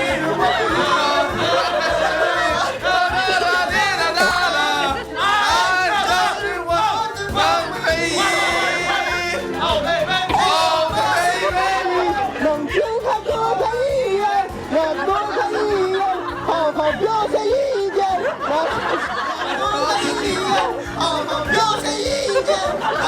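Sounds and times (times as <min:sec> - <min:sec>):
musical backing: 0:00.0 - 0:23.0
person singing with wobbling pitch: 0:00.0 - 0:23.0.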